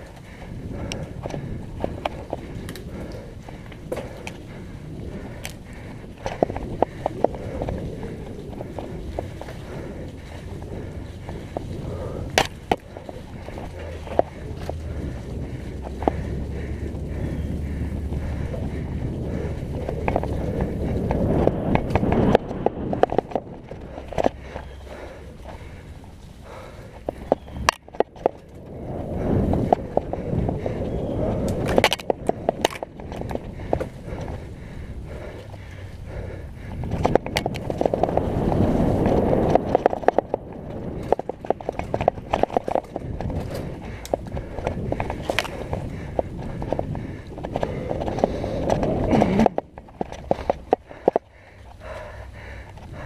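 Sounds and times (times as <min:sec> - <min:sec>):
bike knocks and rattles: 0:00.0 - 0:25.9, 0:26.5 - 0:35.7, 0:36.6 - 0:53.0
tyres rumbling on dirt trail: 0:00.0 - 0:53.0.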